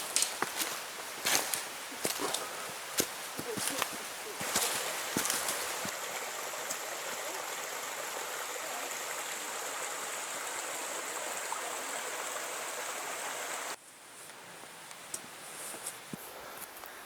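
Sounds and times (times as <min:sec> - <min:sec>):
stream rushing: 0:00.0 - 0:13.8.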